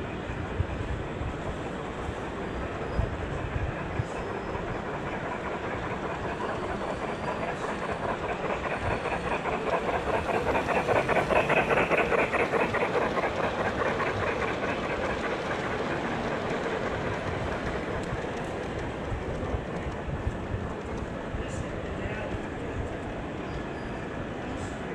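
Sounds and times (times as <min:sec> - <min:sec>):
model train wheels clicking: 0:01.6 - 0:23.2.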